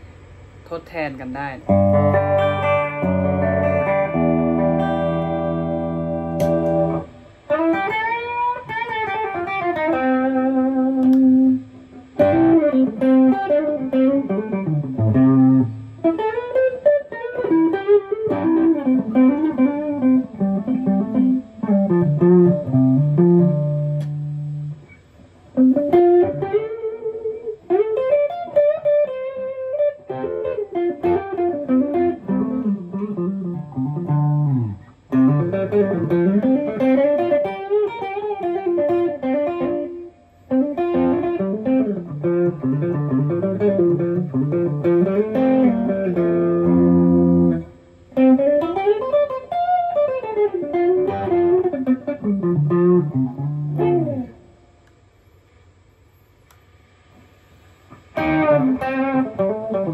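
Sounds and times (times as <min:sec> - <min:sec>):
electric guitar melodic lines: 0:01.1 - 0:55.0, 0:57.9 - 0:59.9.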